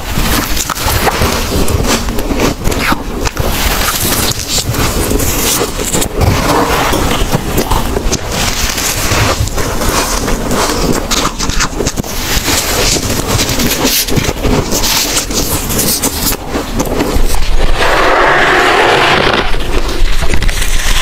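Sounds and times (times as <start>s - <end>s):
frost ice crunching: 0.0s - 21.0s.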